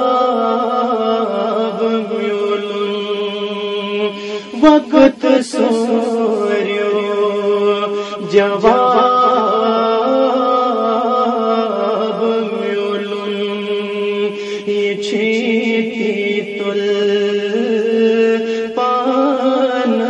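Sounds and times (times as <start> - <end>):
person chanting in held notes: 0.0 - 20.0.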